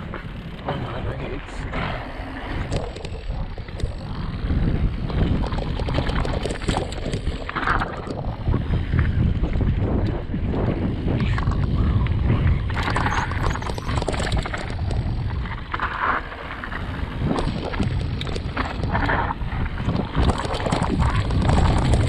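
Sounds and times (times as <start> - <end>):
tyres rumbling on dirt trail: 0.0 - 22.0
wind buffeting microphone: 0.0 - 22.0.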